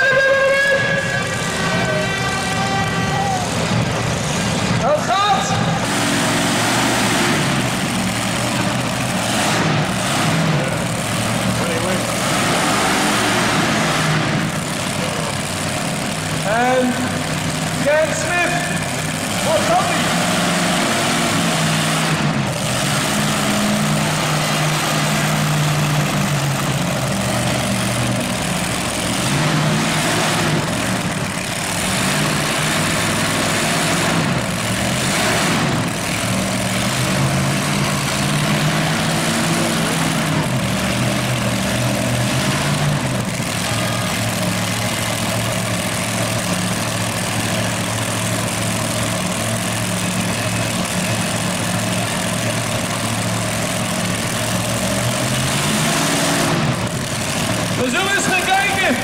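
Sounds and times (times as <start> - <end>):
tractor engines idling: 0.0 - 59.0.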